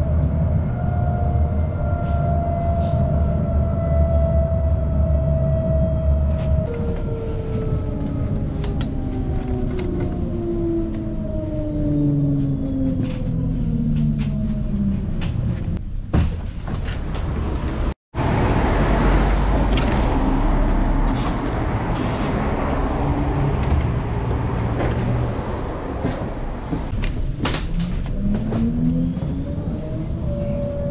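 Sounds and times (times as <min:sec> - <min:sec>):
electric tram whine: 0:00.0 - 0:16.0, 0:16.8 - 0:30.9
rumble of trams at a stop: 0:00.0 - 0:30.9.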